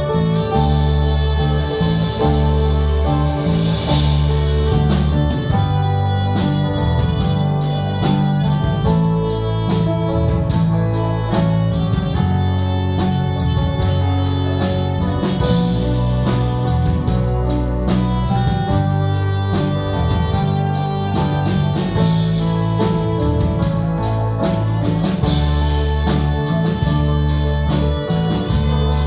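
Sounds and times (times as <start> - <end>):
church band playing worship music: 0.0 - 29.0.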